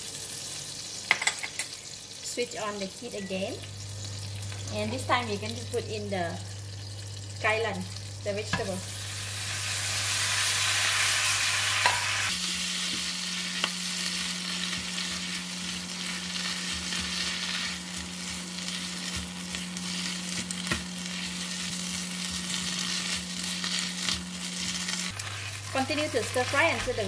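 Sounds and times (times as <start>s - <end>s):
leaves sizzling in hot oil: 0.0s - 27.0s.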